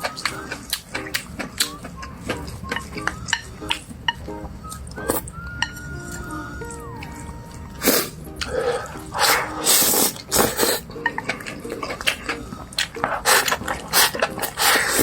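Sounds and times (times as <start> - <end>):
chewing and slurping: 0.0 - 15.0.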